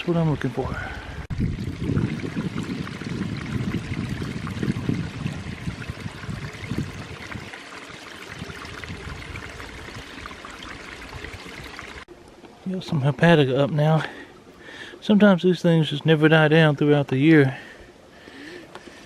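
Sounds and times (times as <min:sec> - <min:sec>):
creek trickling over stones: 0:00.0 - 0:19.0.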